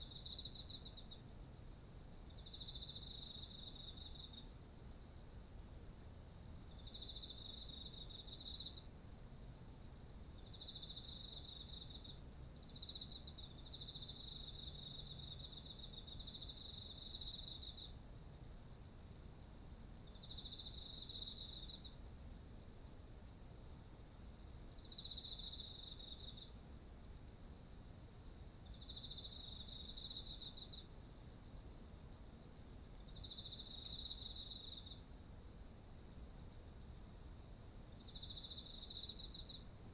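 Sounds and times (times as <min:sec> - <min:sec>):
lower pulsed insect trills: 0:00.0 - 0:39.9.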